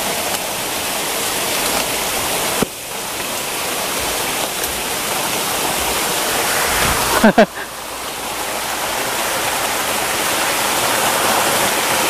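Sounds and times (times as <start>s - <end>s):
small waterfall splashing over rocks: 0.0s - 6.1s, 8.3s - 12.0s.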